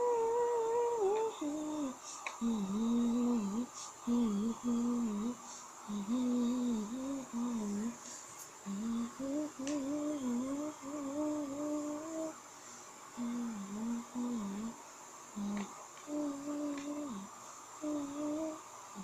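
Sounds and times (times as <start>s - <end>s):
person humming a tune: 0.0s - 8.0s, 8.6s - 12.4s, 13.2s - 14.8s, 15.4s - 19.0s.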